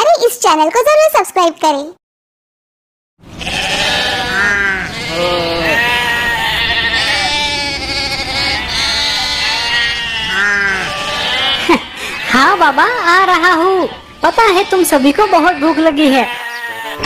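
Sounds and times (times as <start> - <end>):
goats bleating: 3.3 - 17.0.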